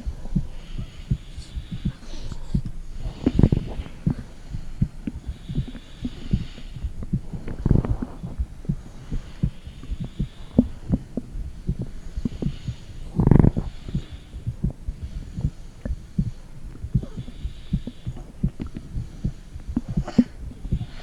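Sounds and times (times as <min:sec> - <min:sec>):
heartbeat thumps: 0:00.0 - 0:21.0
low rumble: 0:00.0 - 0:21.0.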